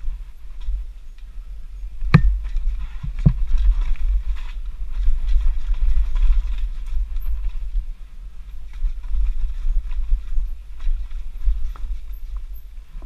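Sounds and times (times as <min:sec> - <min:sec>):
wind rumble on microphone: 0:00.0 - 0:13.0
bike rattling over rock: 0:02.1 - 0:12.6.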